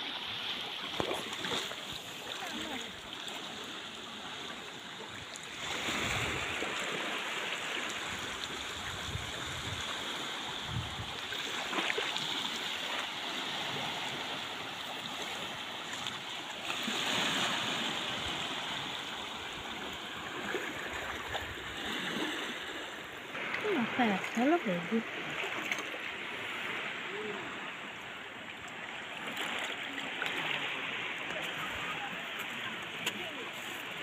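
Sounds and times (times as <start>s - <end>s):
small waves lapping over rocks: 0.0s - 34.0s.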